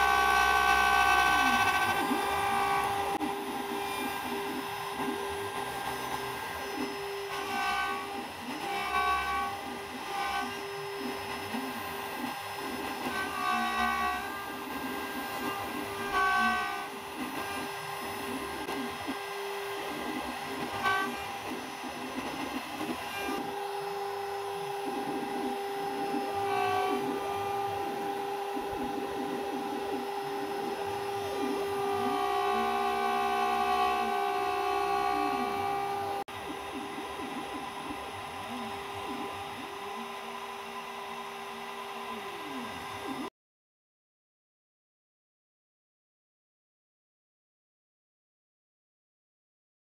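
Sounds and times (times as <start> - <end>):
router motors whining: 0.0 - 43.3.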